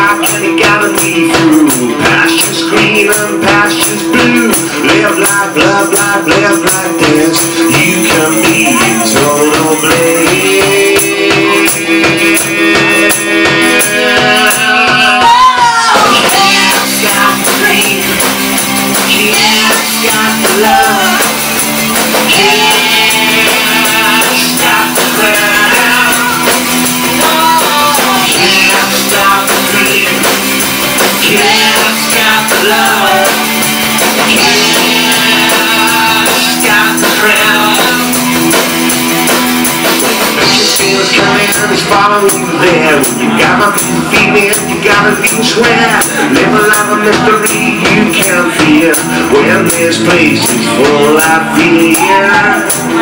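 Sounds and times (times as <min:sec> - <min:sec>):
bending lead guitar melody: 0:00.0 - 0:53.0
live rock band playing: 0:00.0 - 0:53.0.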